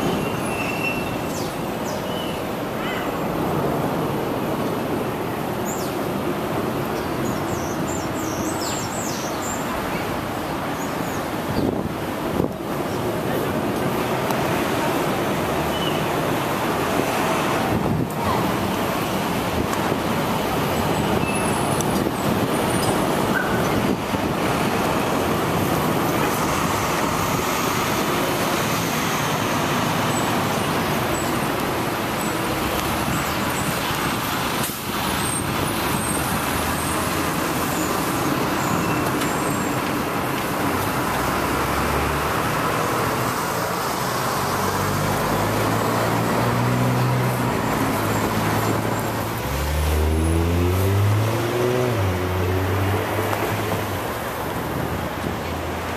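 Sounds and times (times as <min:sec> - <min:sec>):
passing cars and vans: 0:00.0 - 0:55.9.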